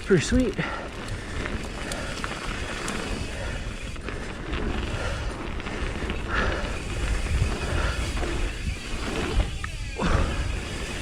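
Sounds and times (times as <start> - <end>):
bike tyres rumbling over dirt: 0.0 - 11.0
wind buffeting microphone: 0.8 - 11.0.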